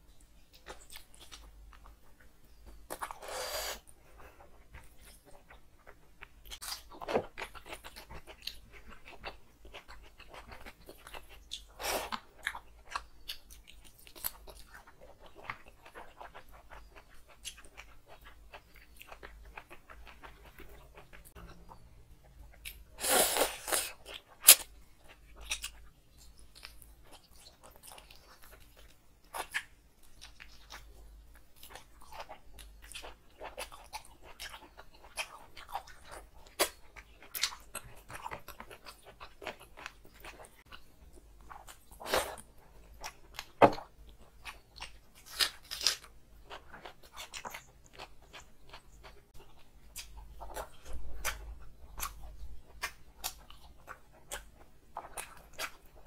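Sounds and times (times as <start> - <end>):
chewing with wet clicks and crunches: 0.2 - 3.2, 3.9 - 23.0, 23.8 - 56.0.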